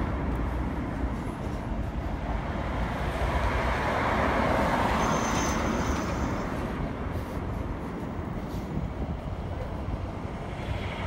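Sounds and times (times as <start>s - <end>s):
low traffic rumble: 0.0s - 11.0s
vehicle passing: 0.0s - 11.0s.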